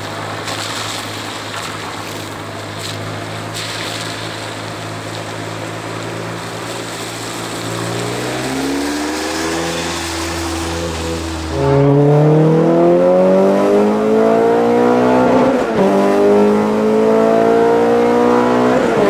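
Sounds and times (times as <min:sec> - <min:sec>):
car engine running and accelerating: 0:00.0 - 0:19.0.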